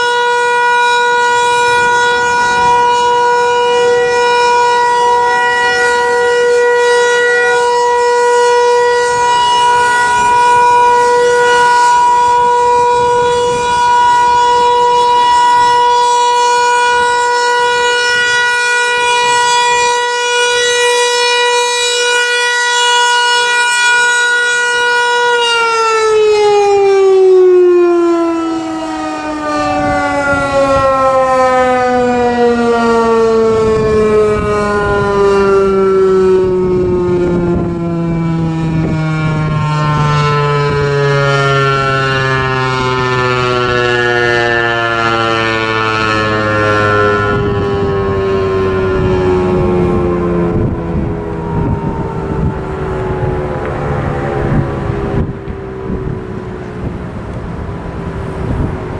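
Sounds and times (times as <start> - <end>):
warning siren: 0.0 - 58.9.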